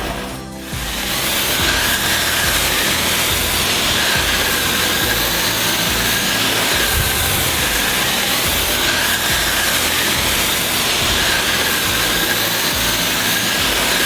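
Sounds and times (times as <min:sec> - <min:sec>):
motor and pump whine: 0:00.0 - 0:14.0
water jet hissing: 0:00.0 - 0:14.0.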